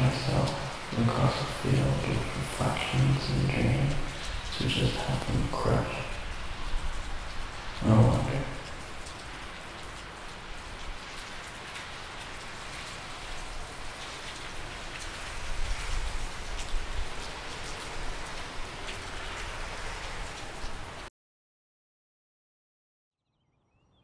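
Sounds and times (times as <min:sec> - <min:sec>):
rain falling on wet pavement: 0:00.0 - 0:21.1.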